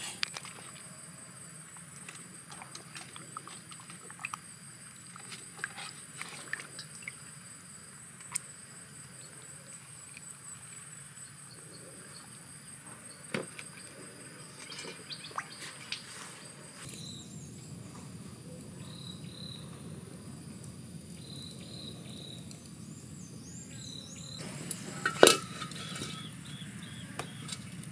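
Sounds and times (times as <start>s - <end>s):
high-pitched insect trill: 0.4s - 27.8s.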